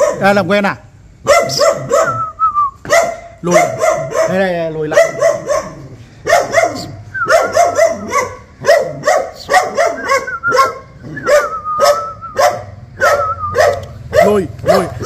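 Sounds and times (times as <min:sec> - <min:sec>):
dog barking: 0:00.0 - 0:00.4, 0:01.2 - 0:15.0.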